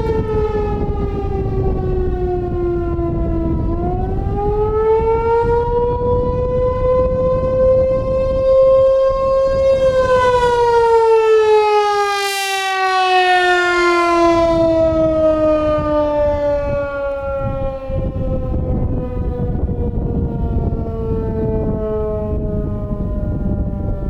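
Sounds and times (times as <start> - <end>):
warning siren wailing: 0.0 - 24.0.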